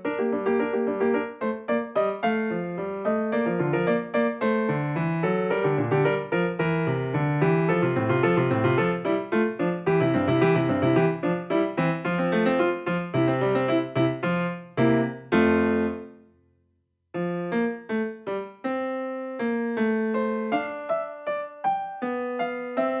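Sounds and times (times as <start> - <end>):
piano music: 0.0 - 16.3, 17.2 - 23.0.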